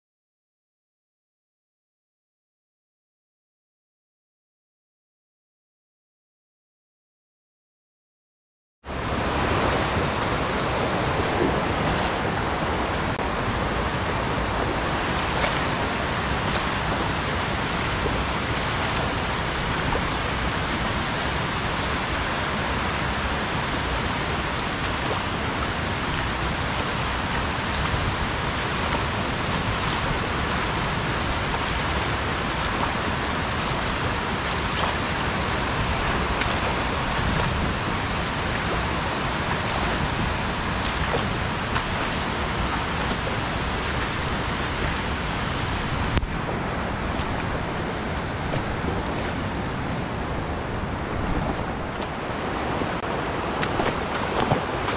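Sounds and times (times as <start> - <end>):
river rushing over rocks: 8.9 - 54.9.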